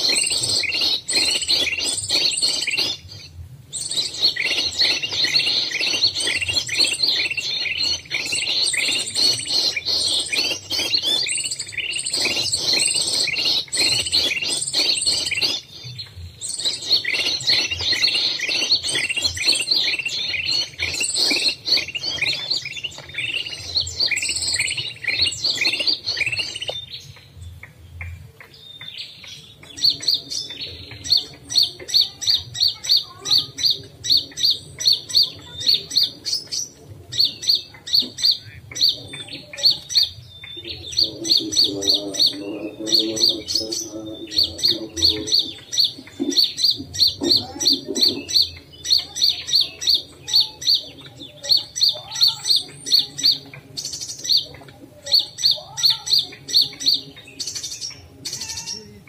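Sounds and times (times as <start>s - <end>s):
sharp bird calls: 0.0s - 59.0s
small birds chirping: 0.0s - 59.0s.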